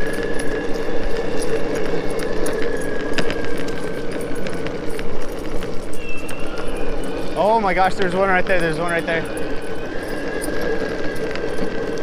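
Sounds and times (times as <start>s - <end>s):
electric motor whine: 0.0s - 12.0s
light metallic jingle: 0.0s - 12.0s
scattered clicks: 0.0s - 12.0s
skateboard wheels rumbling on asphalt: 0.0s - 12.0s.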